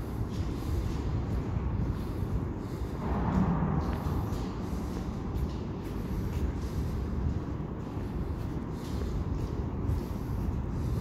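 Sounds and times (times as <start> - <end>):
deep rumble echoing in pipe: 0.0 - 11.0.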